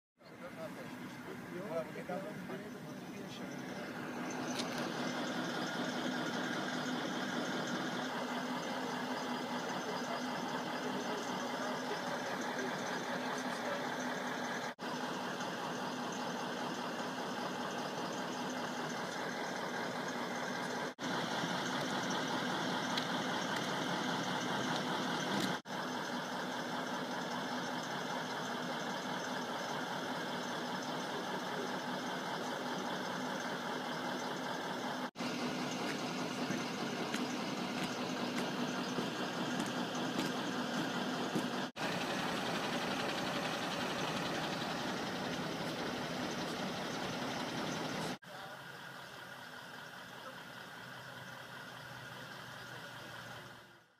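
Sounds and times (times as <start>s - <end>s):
vehicle engine idling: 0.2s - 53.9s.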